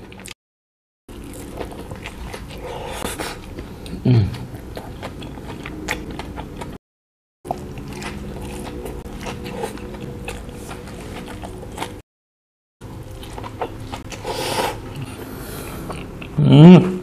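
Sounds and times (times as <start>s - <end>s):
chewing with wet mouth smacks: 1.1s - 6.8s, 7.5s - 12.0s, 12.9s - 16.4s.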